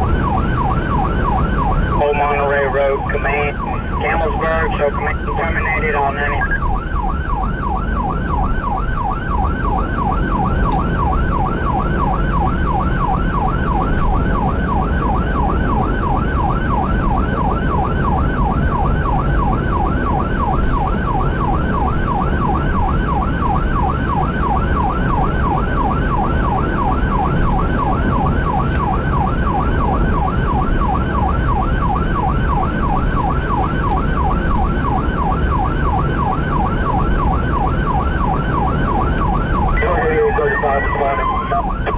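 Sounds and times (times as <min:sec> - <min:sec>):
road noise: 0:00.0 - 0:41.9
siren yelping: 0:00.0 - 0:41.9.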